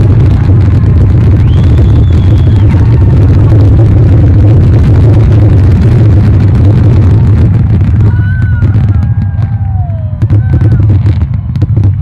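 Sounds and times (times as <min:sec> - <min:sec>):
high gliding firework whistles: 0:00.0 - 0:11.6
fireworks barrage rumble and bangs: 0:00.0 - 0:12.0.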